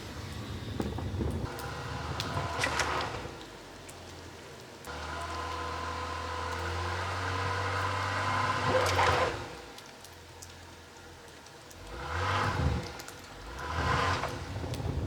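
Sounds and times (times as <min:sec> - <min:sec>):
car engine running under load: 0:00.0 - 0:09.9, 0:11.8 - 0:15.0.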